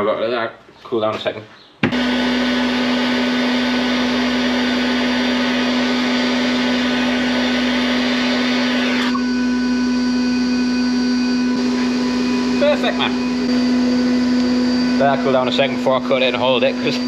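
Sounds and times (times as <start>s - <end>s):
blowtorch hissing: 1.9s - 17.0s.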